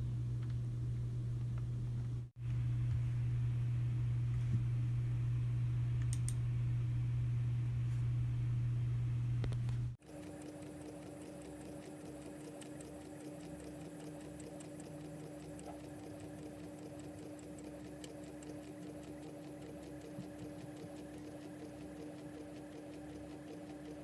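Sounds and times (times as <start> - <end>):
printer motor hum: 0.0 - 24.0.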